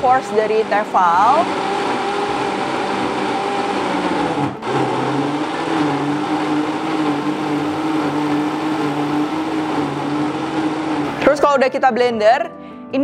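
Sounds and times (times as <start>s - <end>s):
blender motor running: 0.0s - 11.3s.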